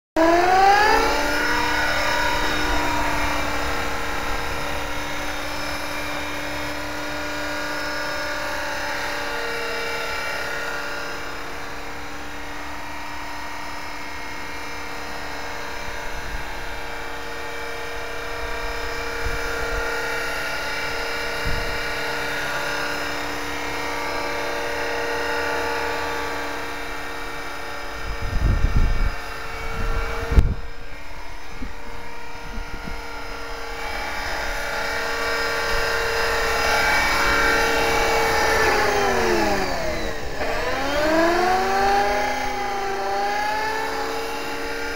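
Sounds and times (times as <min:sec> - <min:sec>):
rc helicopter rotor whine: 0:00.2 - 0:44.9.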